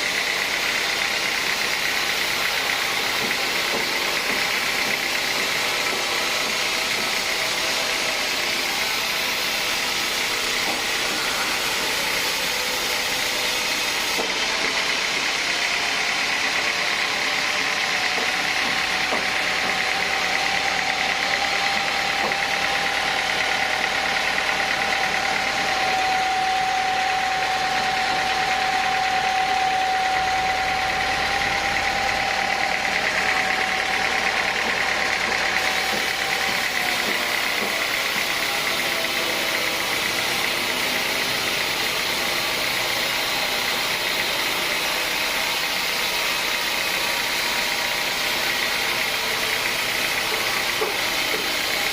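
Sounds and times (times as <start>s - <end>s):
sawmill saw whining: 0.0s - 51.9s.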